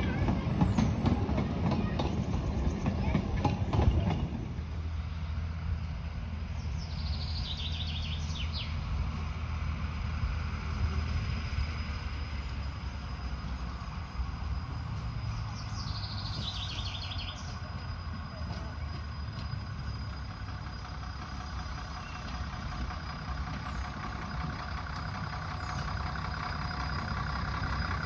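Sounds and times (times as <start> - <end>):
songbird singing: 0.0 - 3.6, 6.3 - 9.5, 12.2 - 28.0
distant diesel locomotive drone: 0.0 - 28.0.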